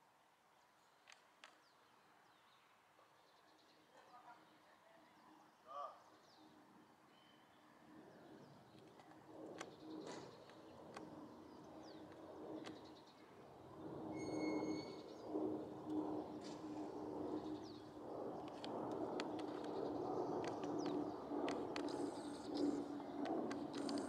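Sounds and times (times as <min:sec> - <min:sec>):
faint birdsong: 0:00.5 - 0:24.0.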